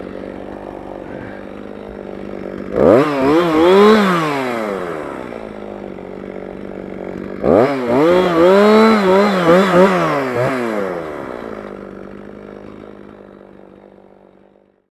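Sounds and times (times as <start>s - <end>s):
chainsaw idling and revving: 0.0s - 14.9s.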